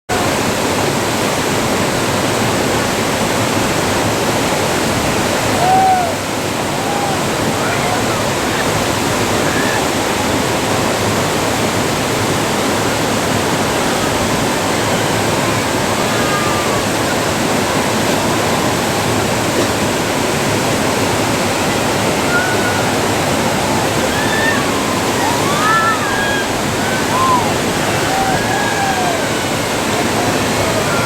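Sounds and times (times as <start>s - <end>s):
river rapids rushing: 0.1s - 31.0s.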